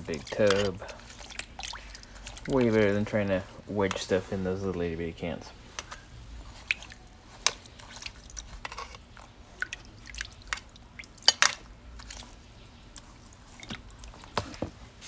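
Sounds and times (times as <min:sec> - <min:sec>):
liquid drips and plinks: 0:00.0 - 0:05.0, 0:05.7 - 0:14.8.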